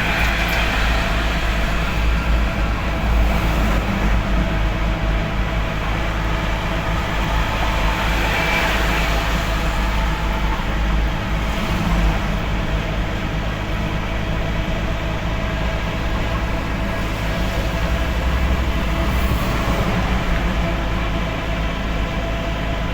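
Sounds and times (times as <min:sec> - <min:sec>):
truck engine and tyres rumbling: 0:00.0 - 0:22.9.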